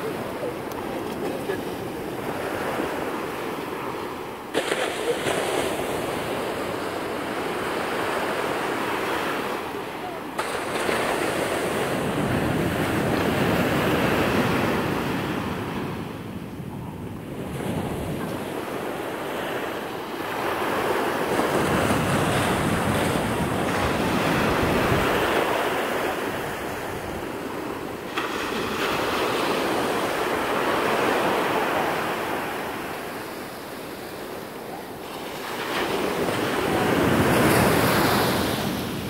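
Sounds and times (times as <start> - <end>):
surf washing up shore: 0.0 - 39.0.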